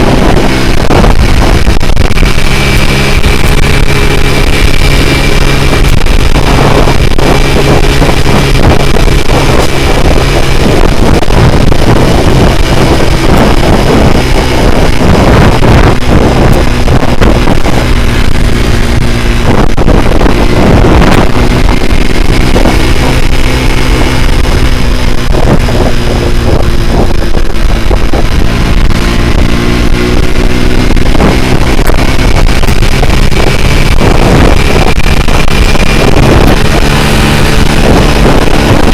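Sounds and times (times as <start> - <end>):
motorcycle engine running hard: 0.0 - 38.9
wind buffeting microphone: 0.0 - 38.9.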